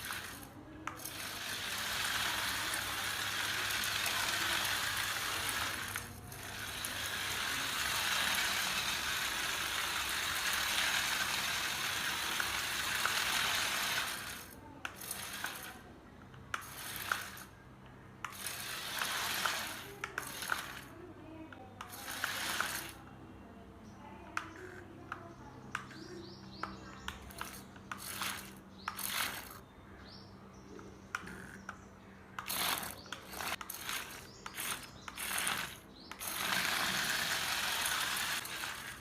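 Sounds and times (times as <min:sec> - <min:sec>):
small electric motors whirring: 0:00.0 - 0:23.2, 0:24.3 - 0:29.6, 0:31.1 - 0:39.0.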